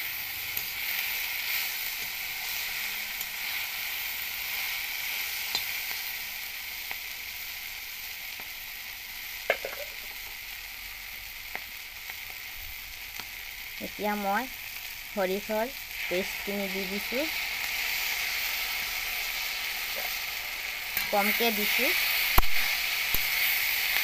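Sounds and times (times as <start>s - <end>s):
food sizzling in oil: 0.0s - 24.0s.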